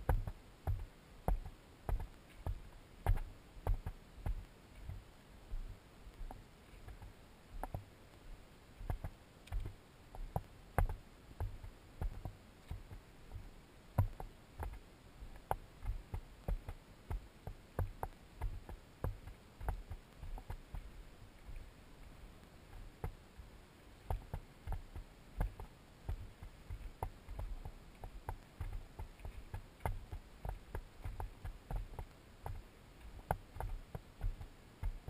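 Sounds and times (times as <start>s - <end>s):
footsteps on dirt and rock: 0.0s - 7.9s, 8.8s - 21.7s, 22.7s - 35.0s.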